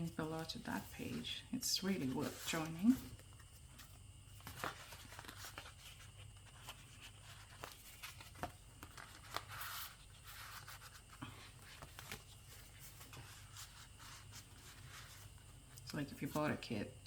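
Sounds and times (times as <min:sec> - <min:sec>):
paper pages rustling: 0:00.0 - 0:16.6.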